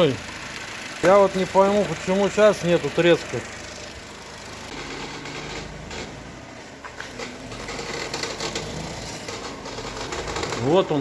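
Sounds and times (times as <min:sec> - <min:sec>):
engine running with rattling clatter: 0:00.0 - 0:11.0.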